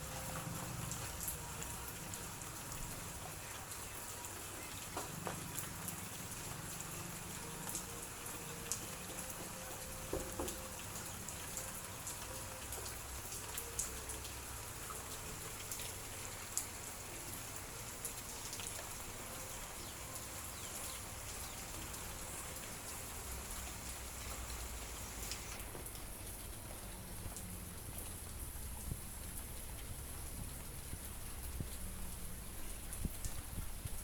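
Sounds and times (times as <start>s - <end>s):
raindrops dripping: 0.0s - 34.0s.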